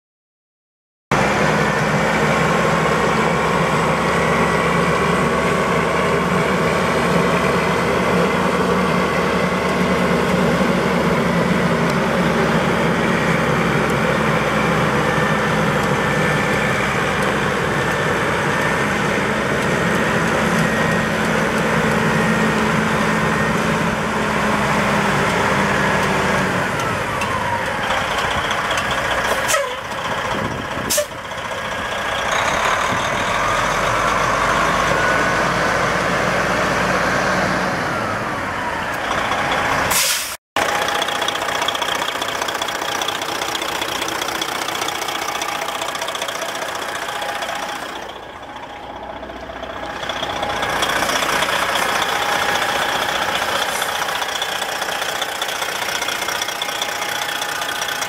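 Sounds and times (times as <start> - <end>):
diesel truck engine running: 1.1 - 58.0.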